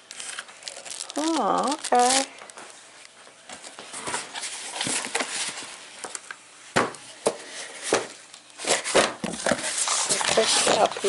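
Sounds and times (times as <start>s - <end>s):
packaging rustling: 0.0s - 6.4s, 7.5s - 11.0s.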